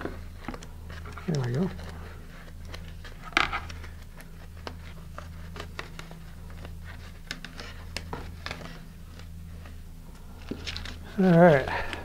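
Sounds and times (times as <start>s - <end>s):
steady low hum: 0.0s - 12.0s
tape crackling and clicking: 0.0s - 12.0s.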